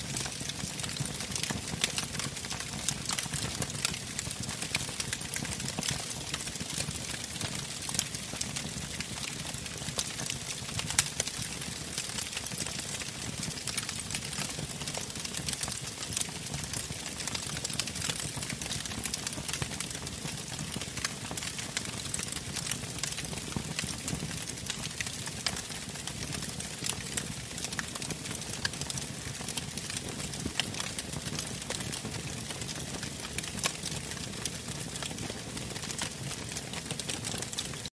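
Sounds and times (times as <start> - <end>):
faint crackles and clicks: 0.2 - 37.9.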